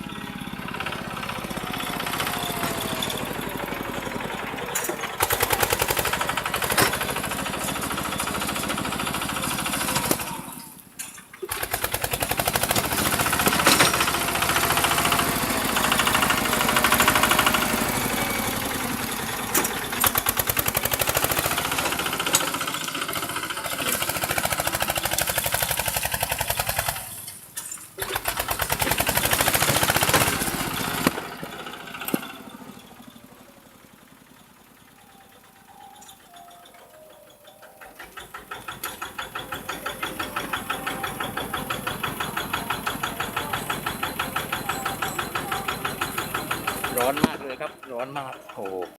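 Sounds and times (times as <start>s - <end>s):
tractor engine running hard: 0.0s - 48.9s.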